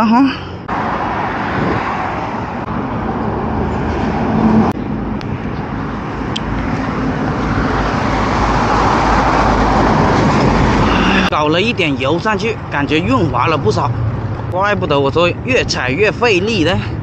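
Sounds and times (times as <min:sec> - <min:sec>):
passing cars and trucks: 0:00.0 - 0:17.0.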